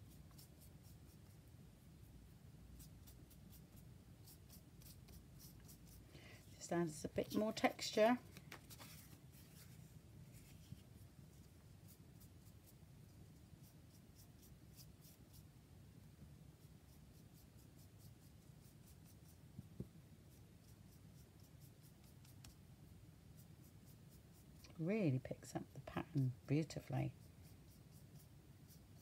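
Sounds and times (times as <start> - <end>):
paintbrush scratching on paper: 0.0 - 15.5, 16.6 - 19.6, 20.3 - 29.0.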